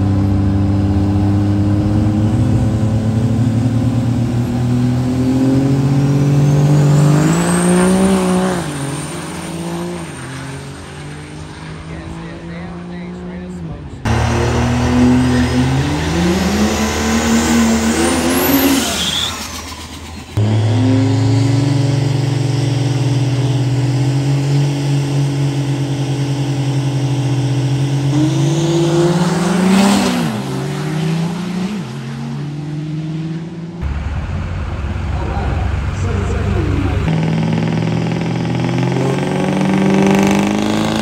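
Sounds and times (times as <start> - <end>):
diesel engine revving: 0.0 - 41.0
tire noise: 0.0 - 41.0.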